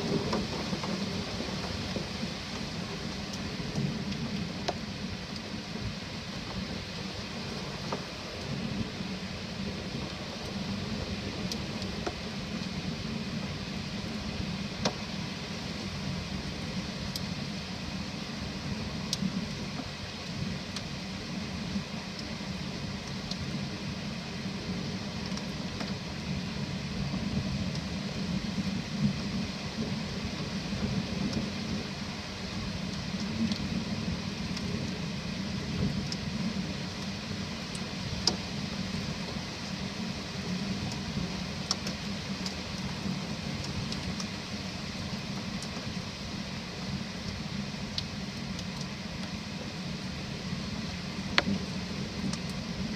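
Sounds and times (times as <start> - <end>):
low thunder rumble: 0.0 - 48.8
steady rain hiss: 0.0 - 52.9.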